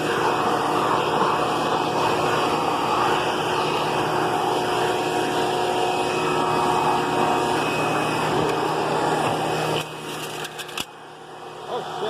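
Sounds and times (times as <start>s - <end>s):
vacuum cleaner motor whining: 0.0s - 12.0s.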